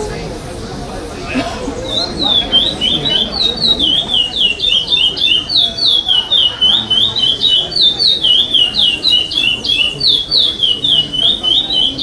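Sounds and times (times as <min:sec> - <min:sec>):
finch singing whistled notes: 0:01.6 - 0:12.0.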